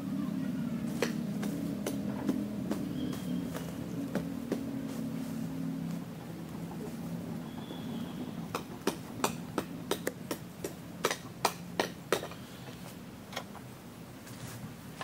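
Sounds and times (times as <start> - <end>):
burning charcoal crackling: 0.6 - 15.0.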